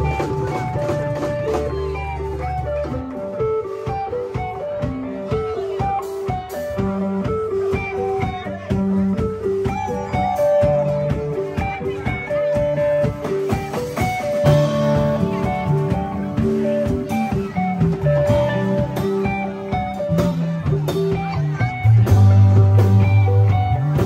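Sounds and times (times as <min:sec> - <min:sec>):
drums: 0:00.0 - 0:24.0
electric guitars playing bluesy notes: 0:00.0 - 0:24.0.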